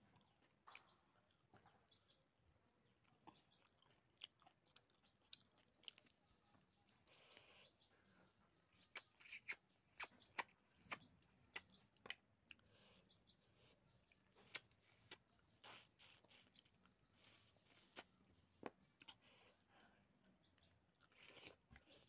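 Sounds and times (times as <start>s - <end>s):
person chewing food: 0.0s - 7.9s, 8.6s - 22.0s.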